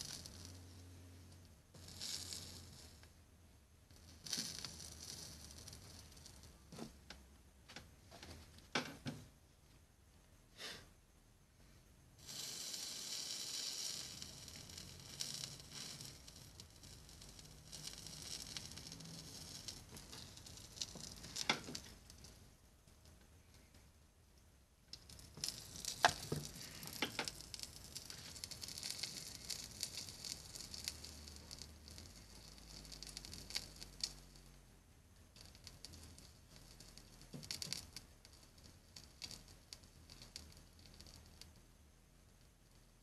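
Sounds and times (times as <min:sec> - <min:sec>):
soldering flux sizzling and crackling: 0:00.0 - 0:09.3, 0:12.1 - 0:43.0.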